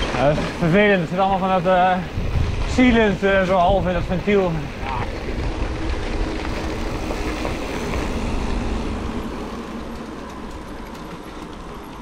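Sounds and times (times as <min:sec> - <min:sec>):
bike tyres rolling over ground: 0:00.0 - 0:12.0
wind rumbling on microphone: 0:00.0 - 0:12.0.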